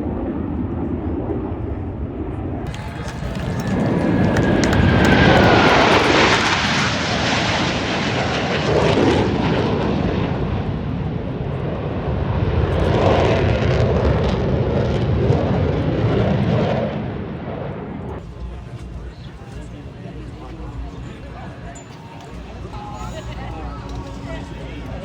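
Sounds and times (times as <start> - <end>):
airplane engine roar: 0.0 - 25.0.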